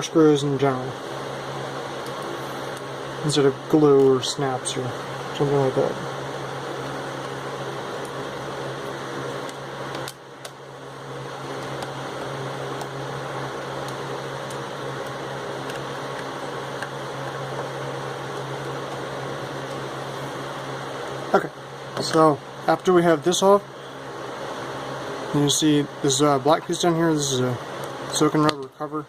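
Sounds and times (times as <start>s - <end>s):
fan-like mechanical hum: 0.0s - 29.0s.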